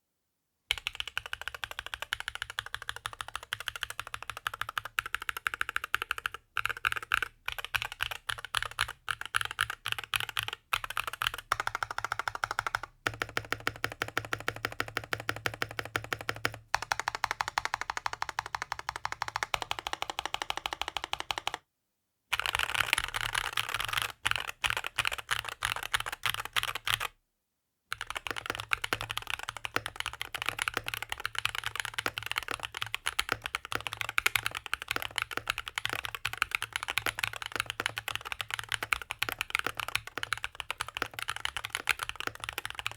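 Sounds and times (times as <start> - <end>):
mechanical keyboard typing: 0.7 - 21.6, 22.4 - 27.1, 27.9 - 42.9.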